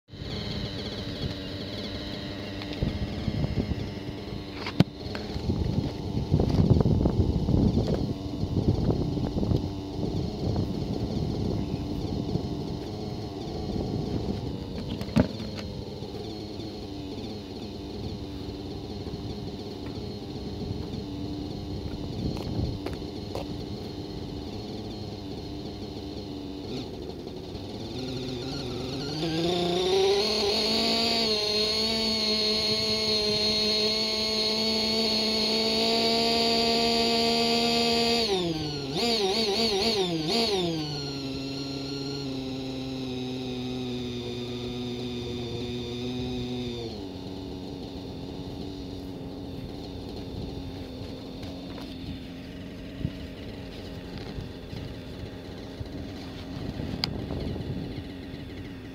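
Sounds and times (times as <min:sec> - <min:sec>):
model helicopter engine whining: 0:00.1 - 0:58.9.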